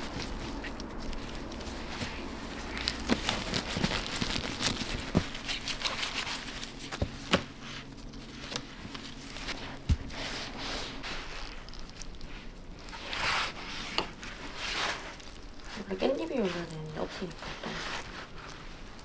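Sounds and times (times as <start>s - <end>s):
bamboo mat rustling and clicking: 0.0s - 19.0s.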